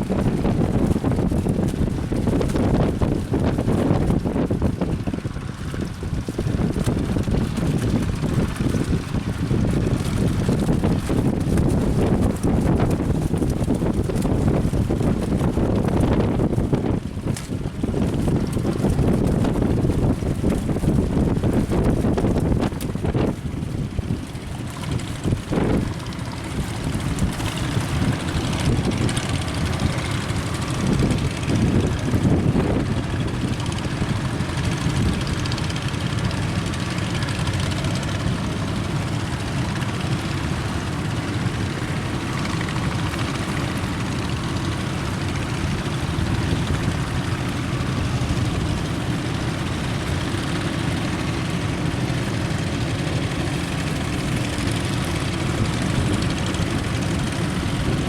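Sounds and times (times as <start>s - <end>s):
boat engine running: 0.0s - 58.0s
wind gusting over microphone: 0.0s - 58.0s.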